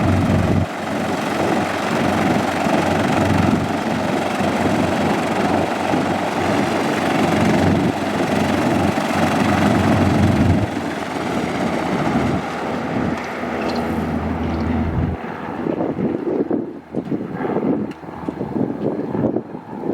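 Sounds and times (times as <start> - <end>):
propeller plane engines droning: 0.0 - 19.9.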